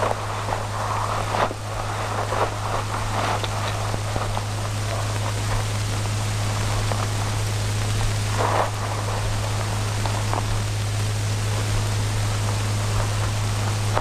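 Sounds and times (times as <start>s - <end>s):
low steady hum: 0.0s - 14.0s
steady hiss: 0.0s - 14.0s.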